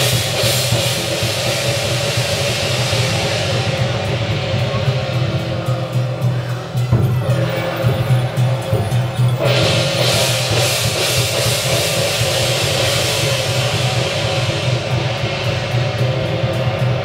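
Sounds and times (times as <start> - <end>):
cymbal wash: 0.0 - 17.0
drums playing: 0.0 - 17.0.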